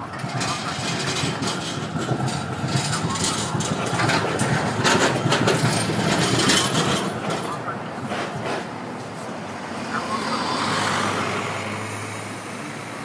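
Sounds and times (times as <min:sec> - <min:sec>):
tram wheels rumbling on rail: 0:00.0 - 0:13.0.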